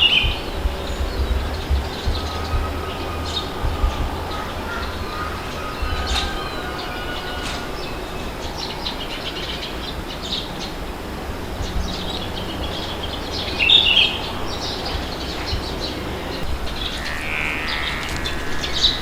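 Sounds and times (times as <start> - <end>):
wind rushing: 0.0 - 17.1
small birds chirping: 0.0 - 19.0.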